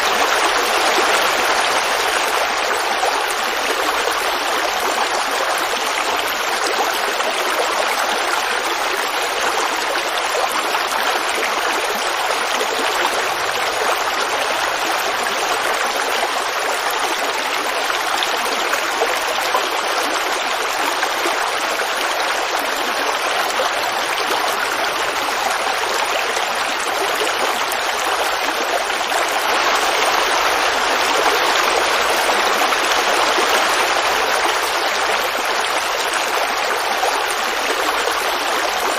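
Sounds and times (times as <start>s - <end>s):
creek water babbling: 0.0s - 38.9s.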